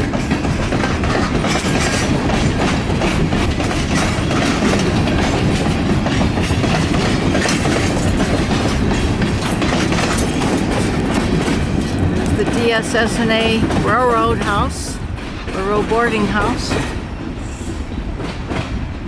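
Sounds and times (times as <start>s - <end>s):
train wheels clicking over rail joints: 0.0s - 19.0s
wind buffeting microphone: 0.0s - 19.0s.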